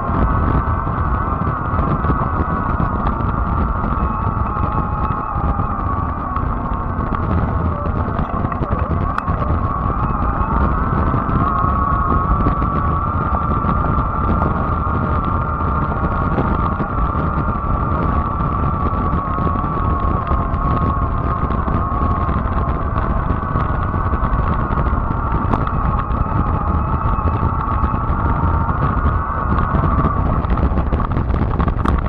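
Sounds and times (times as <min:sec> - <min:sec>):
electric bike motor whine: 0:00.0 - 0:32.0
wind on microphone: 0:00.0 - 0:32.0.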